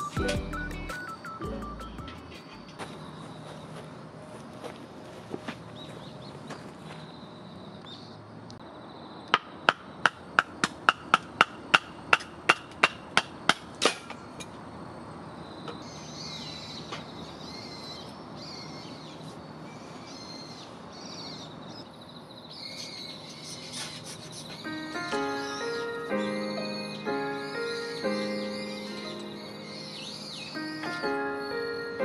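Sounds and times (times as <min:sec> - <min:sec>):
birds calling: 0:00.0 - 0:04.8, 0:09.3 - 0:32.0.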